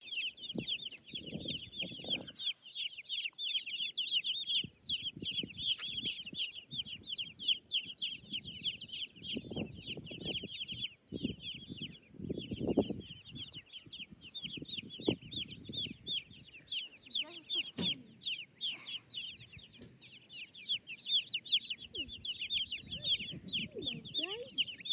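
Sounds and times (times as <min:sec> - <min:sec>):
chicks peeping: 0:00.0 - 0:24.9.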